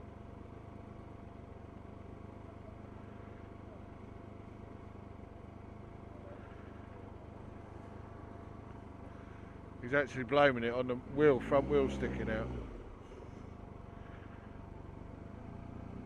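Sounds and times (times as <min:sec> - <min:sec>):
engines idling in traffic: 0:00.0 - 0:16.0
faint steady whine: 0:00.0 - 0:16.0.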